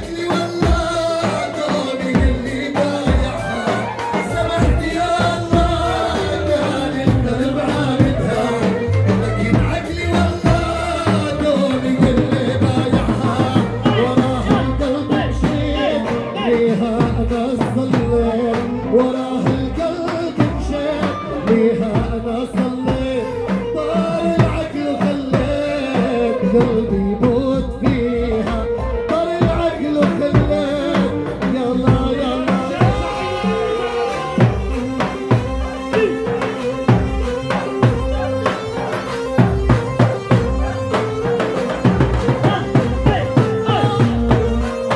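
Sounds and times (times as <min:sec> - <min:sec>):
band with drum kit: 0:00.0 - 0:44.9
large drum beating: 0:00.0 - 0:44.9
man singing through a microphone: 0:00.0 - 0:44.9.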